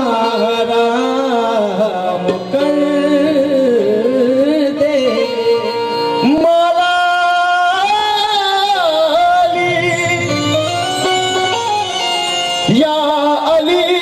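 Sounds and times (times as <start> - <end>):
harmonium: 0.0 - 14.0.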